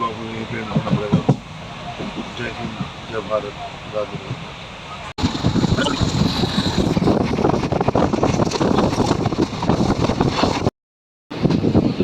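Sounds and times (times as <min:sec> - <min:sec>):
train running noise: 0:00.0 - 0:10.7
wind buffeting microphone: 0:00.0 - 0:10.7, 0:11.3 - 0:12.0.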